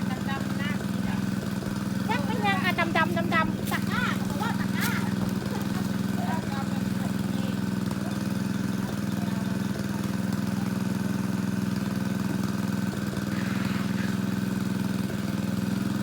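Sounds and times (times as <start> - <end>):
water pump engine humming: 0.0 - 16.0.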